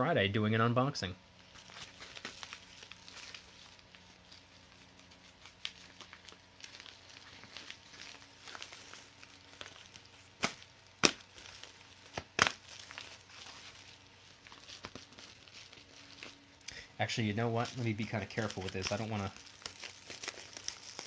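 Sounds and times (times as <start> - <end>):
paper mailer crinkling: 1.4 - 21.0.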